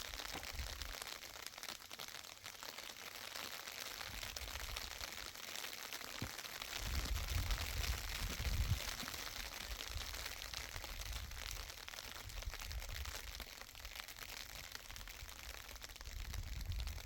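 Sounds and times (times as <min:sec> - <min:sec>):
steady rain patter: 0:00.0 - 0:17.0.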